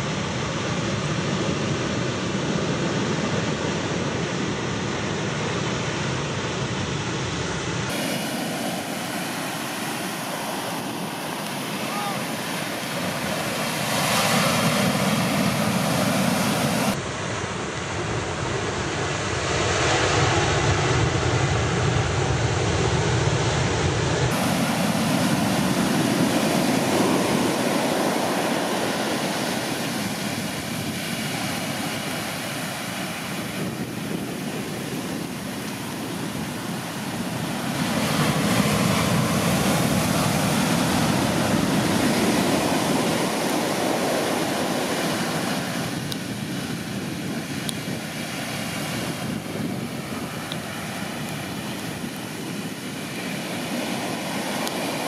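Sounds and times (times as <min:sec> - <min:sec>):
waves crashing on shore: 0:00.0 - 0:55.0.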